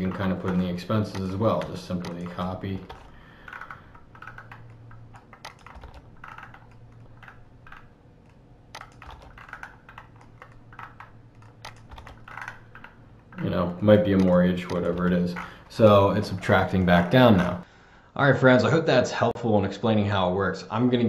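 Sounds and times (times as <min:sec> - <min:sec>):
computer keyboard keystrokes: 0:00.0 - 0:17.1
faint low hum: 0:00.0 - 0:21.0.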